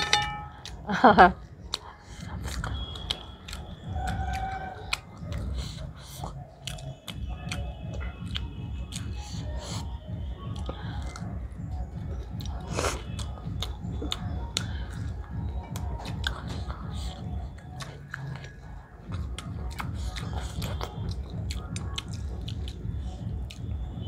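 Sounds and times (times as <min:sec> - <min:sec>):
chewing and biting fried food: 0:01.5 - 0:24.0.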